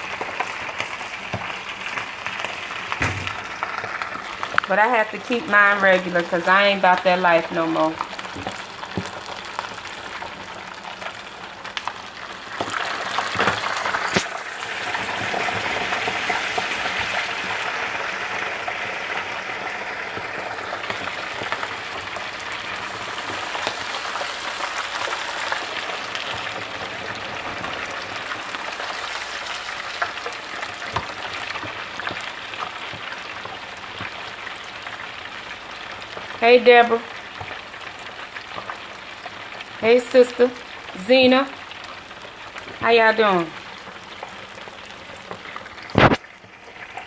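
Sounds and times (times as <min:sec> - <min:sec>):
deep-frying crackling sizzle: 0:00.0 - 0:47.0.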